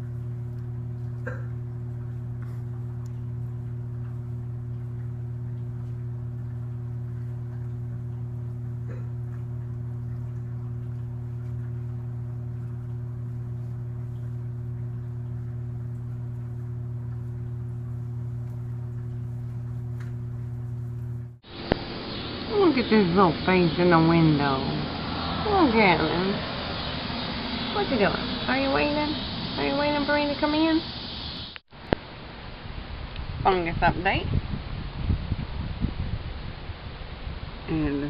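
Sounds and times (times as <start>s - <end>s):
low machine hum: 0.0s - 38.0s.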